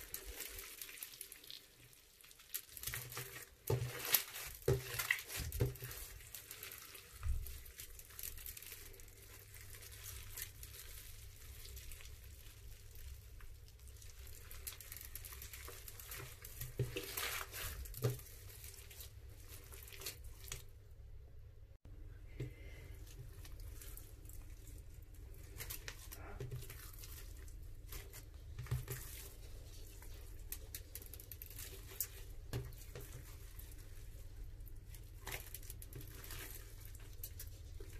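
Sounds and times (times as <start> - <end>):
slime squishing and crackling: 0.0 - 20.9, 22.8 - 37.9.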